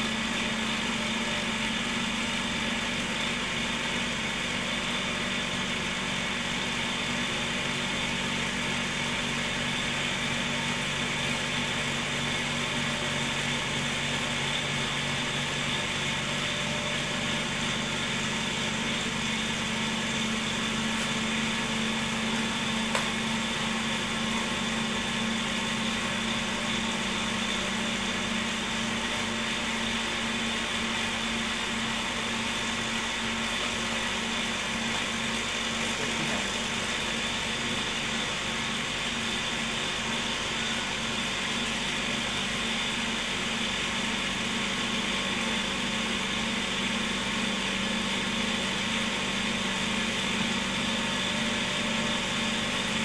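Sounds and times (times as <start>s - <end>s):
cotton candy machine motor humming: 0.0s - 53.0s.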